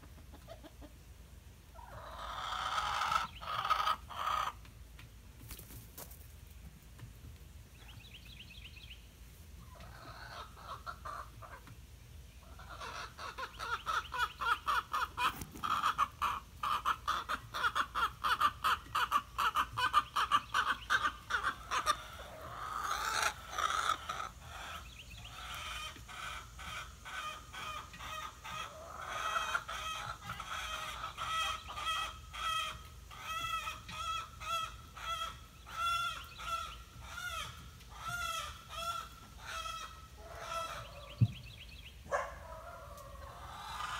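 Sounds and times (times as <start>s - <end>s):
chicken calls: 0.0s - 1.1s, 1.7s - 4.8s, 9.6s - 11.8s, 12.4s - 43.9s
chickens clucking: 0.0s - 8.8s, 9.4s - 43.9s.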